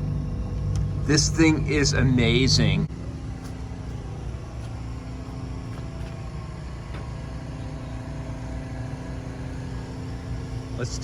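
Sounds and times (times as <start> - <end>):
constant hum: 0.0 - 11.0
low vehicle rumble: 0.0 - 11.0.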